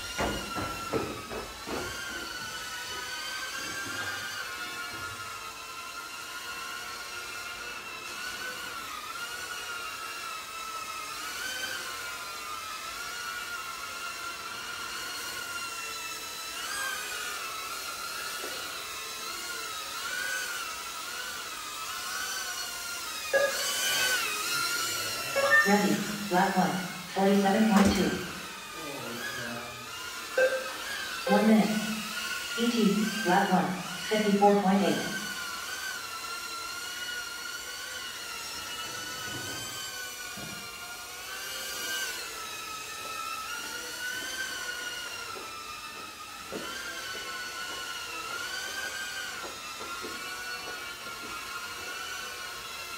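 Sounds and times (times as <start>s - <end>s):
racing quadcopter motors whining: 0.0s - 52.9s.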